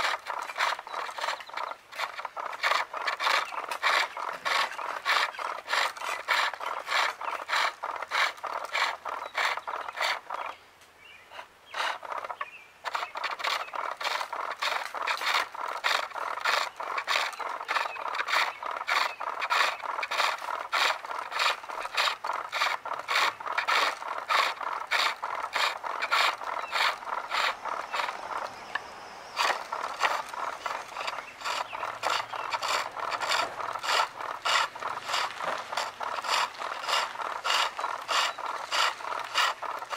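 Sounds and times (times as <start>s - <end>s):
chisel cutting wood on lathe: 0.0s - 10.6s, 11.4s - 39.9s.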